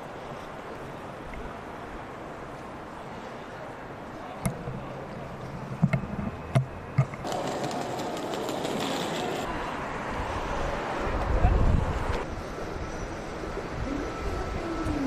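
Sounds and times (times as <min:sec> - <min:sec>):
city background hum: 0:00.0 - 0:15.0.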